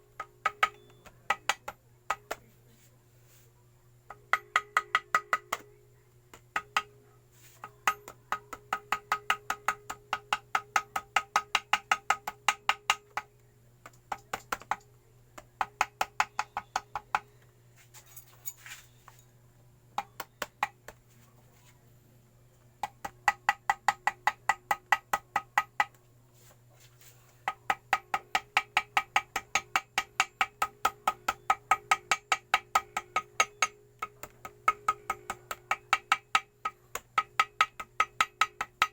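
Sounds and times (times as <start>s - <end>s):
small hammer tapping on metal: 0.0s - 2.5s, 4.1s - 17.4s, 20.0s - 21.1s, 22.8s - 26.0s, 27.4s - 38.9s.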